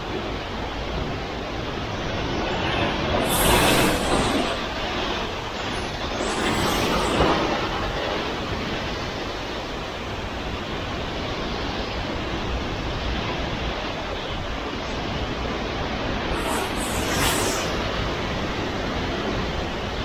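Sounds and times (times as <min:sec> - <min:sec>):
strong wind blowing: 0:00.0 - 0:20.0.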